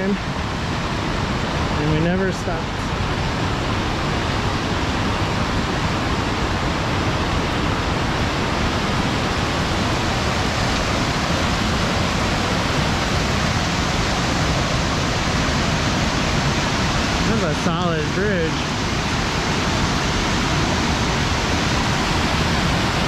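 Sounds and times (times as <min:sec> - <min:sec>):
fast river rushing: 0:00.0 - 0:23.0.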